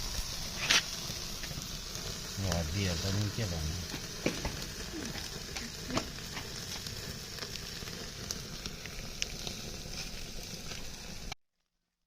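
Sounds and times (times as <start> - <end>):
fire crackling and popping: 0.0 - 11.4
meat sizzling over charcoal: 0.0 - 11.4.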